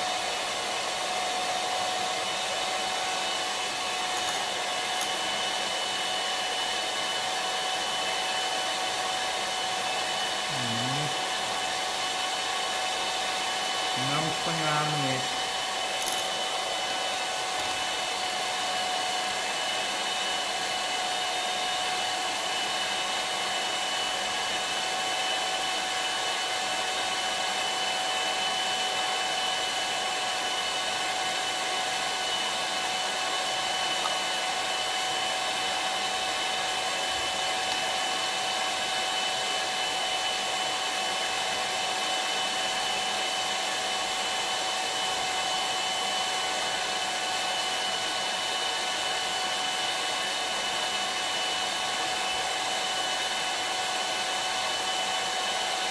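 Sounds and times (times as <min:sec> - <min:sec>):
electric hand mixer whining: 0:00.0 - 0:55.9.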